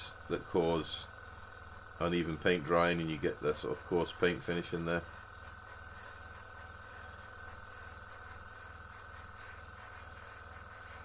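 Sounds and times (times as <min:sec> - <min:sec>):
airbrush spraying hiss: 0:00.0 - 0:11.0.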